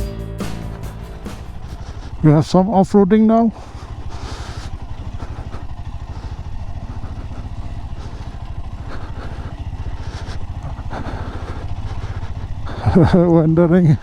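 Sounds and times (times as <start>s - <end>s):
motorcycle engine running: 0.0s - 14.0s
faint rattles: 0.5s - 14.0s.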